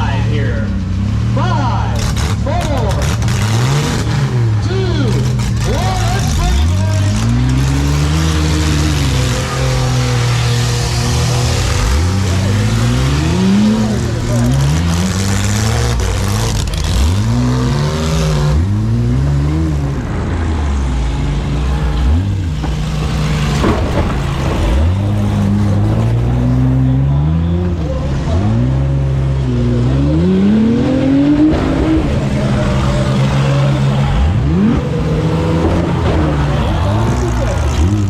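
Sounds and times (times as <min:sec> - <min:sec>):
van engine revving: 0:00.0 - 0:38.0.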